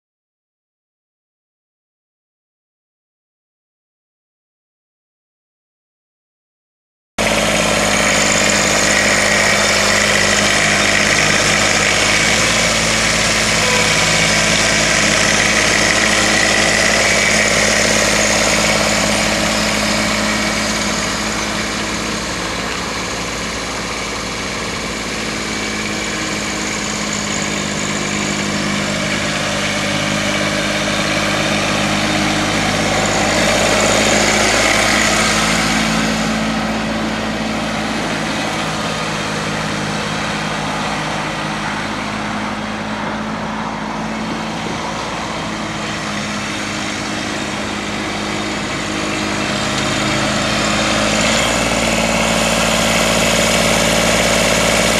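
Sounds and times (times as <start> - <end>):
tractor diesel engine idling: 7.2 - 54.9.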